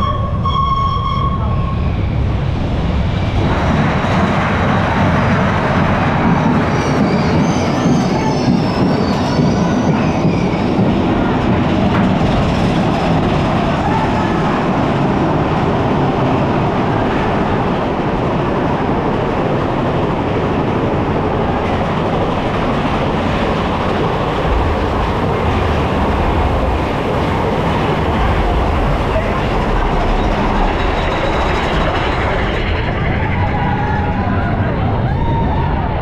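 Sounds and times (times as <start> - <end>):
roller coaster wheels rumbling: 0.0 - 36.0.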